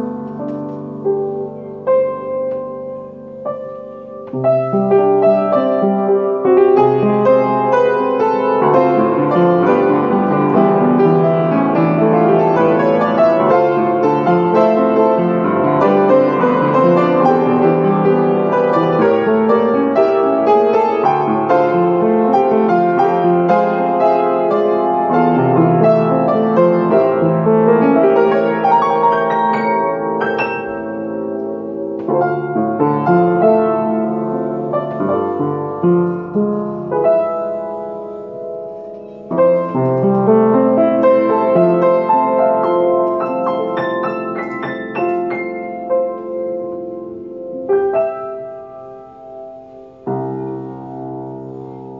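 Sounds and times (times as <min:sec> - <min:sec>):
solo piano: 0:00.0 - 0:51.9.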